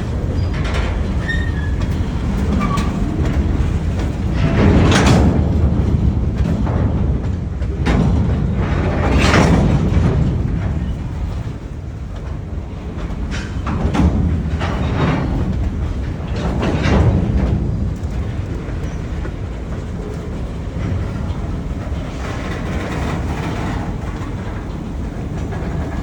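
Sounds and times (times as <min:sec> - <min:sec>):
freight train cars rumbling: 0:00.0 - 0:26.0
wheels clicking over rail joints: 0:00.0 - 0:26.0.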